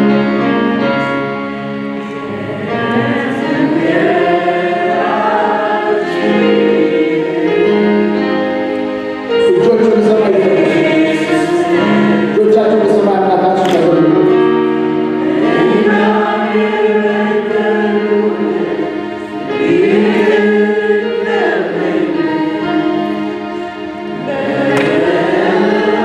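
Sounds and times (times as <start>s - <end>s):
congregation singing: 0.0s - 26.0s.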